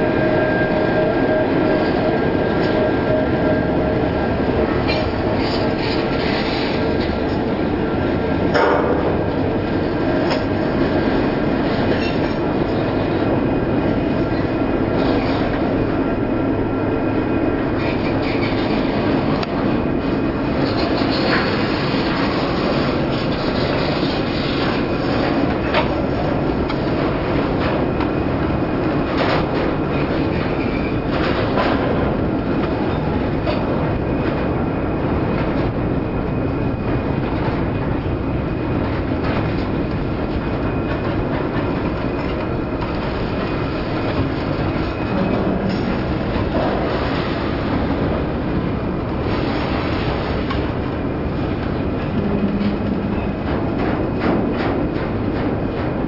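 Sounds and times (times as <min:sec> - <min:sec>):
freight train wheels rumbling: 0:00.0 - 0:56.0
wheels clacking over rail joints: 0:04.4 - 0:15.8, 0:17.8 - 0:56.0.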